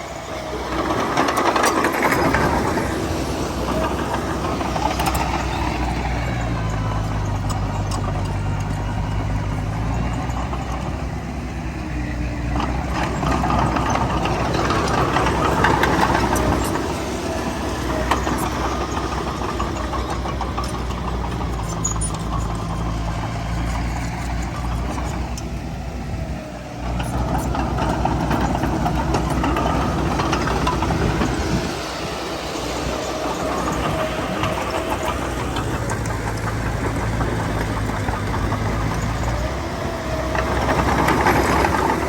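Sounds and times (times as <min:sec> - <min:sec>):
heavy machinery diesel engine: 0:00.0 - 0:42.0
knocks and clanks: 0:00.3 - 0:26.2, 0:26.9 - 0:42.0.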